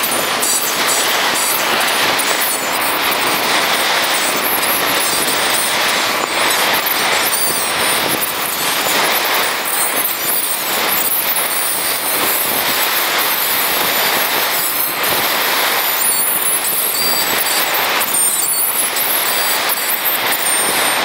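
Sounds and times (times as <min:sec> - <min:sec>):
surf breaking on sandy beach: 0:00.0 - 0:21.0.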